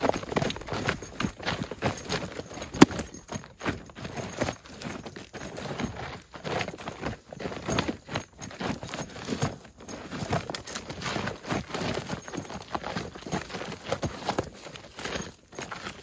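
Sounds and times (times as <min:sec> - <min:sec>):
footsteps on twiggy dirt: 0:00.0 - 0:16.0
leather saddle creaking: 0:00.0 - 0:16.0.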